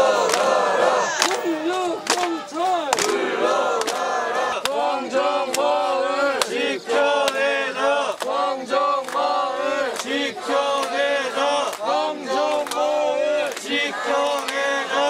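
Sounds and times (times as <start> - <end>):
crowd chanting in unison: 0.0 - 15.0.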